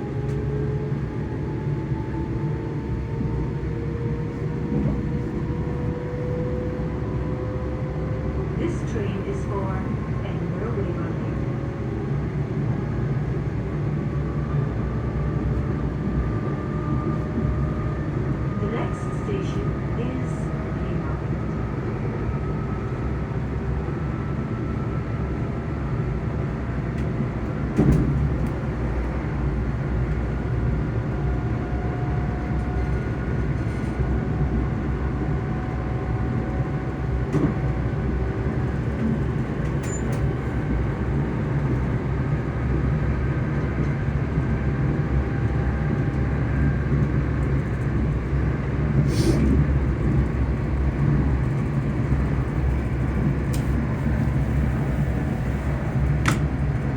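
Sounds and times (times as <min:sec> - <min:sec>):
train motors humming and whining: 0:00.0 - 0:56.9.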